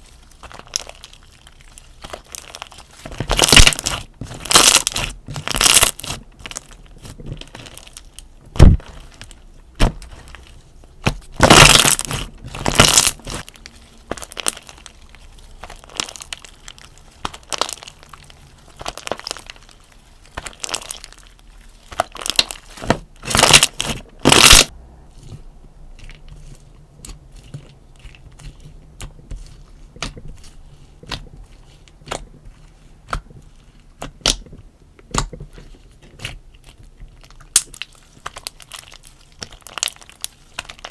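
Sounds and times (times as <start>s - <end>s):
slime crackling and popping: 0.0s - 24.7s, 25.9s - 40.9s
slime crunching squeezes: 0.0s - 40.9s.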